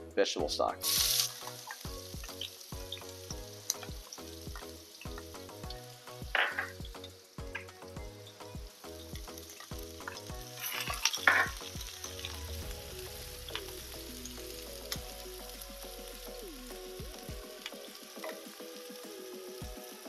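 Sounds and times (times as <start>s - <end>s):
vegetables sizzling in oil: 0.8s - 20.0s.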